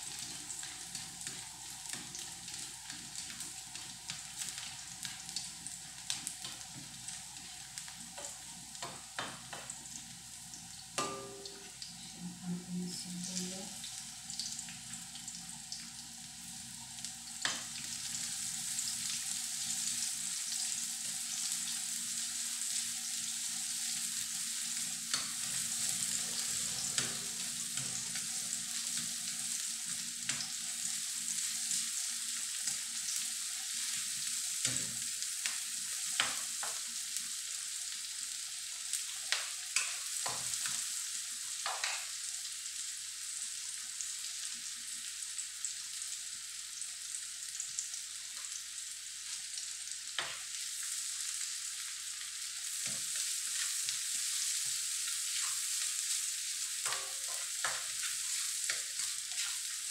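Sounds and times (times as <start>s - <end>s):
garlic and onion sizzling in oil: 0.0s - 59.9s.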